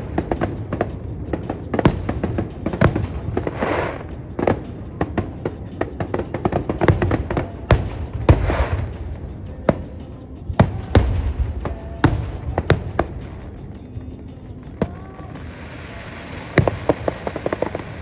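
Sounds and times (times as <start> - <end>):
fireworks bangs: 0.0 - 18.0
fireworks crackling hiss: 0.0 - 18.0.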